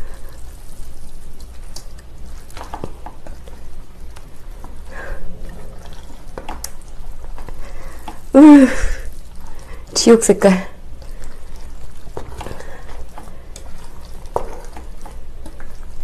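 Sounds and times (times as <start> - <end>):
wet squelching of noodles: 0.0 - 16.0.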